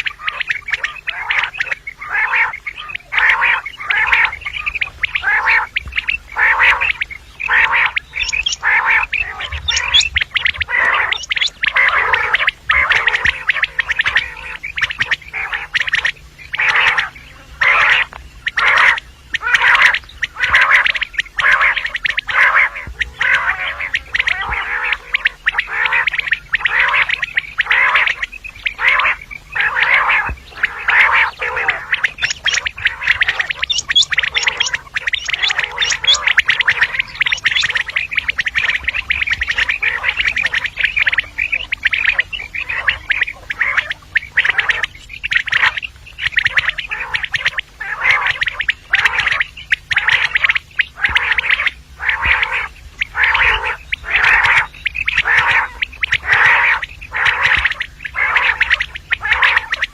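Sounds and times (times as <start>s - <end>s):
quail calling: 0.0s - 59.9s.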